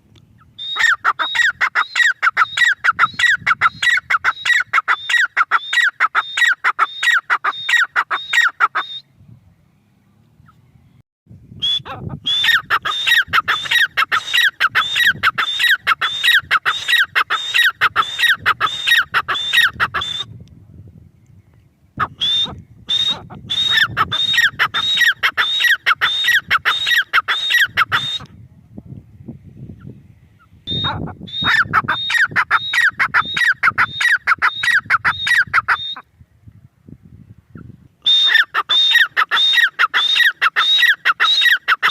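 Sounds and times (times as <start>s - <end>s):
bird calling repeated notes: 0.4s - 9.2s, 11.6s - 20.4s, 22.0s - 28.3s, 30.4s - 36.2s, 37.6s - 41.9s.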